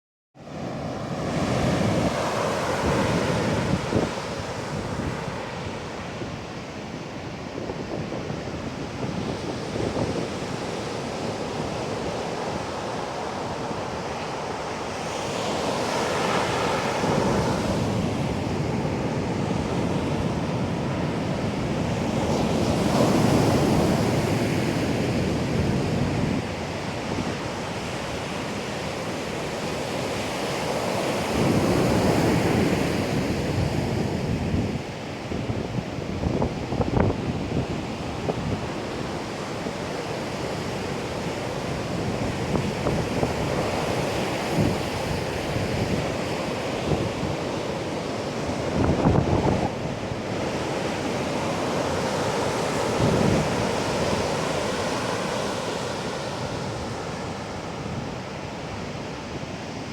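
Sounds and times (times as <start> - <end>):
surf breaking on a beach: 0.4 - 59.9
wind buffeting the microphone: 0.7 - 59.9.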